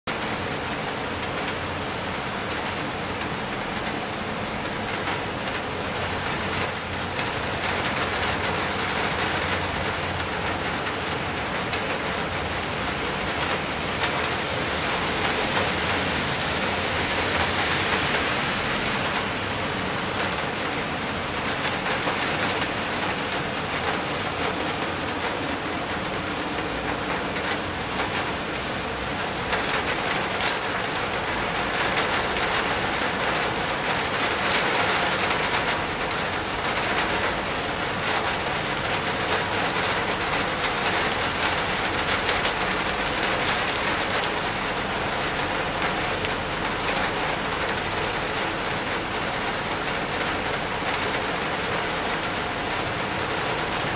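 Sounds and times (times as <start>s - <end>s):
heavy rain on rock and foliage: 0.1s - 53.9s.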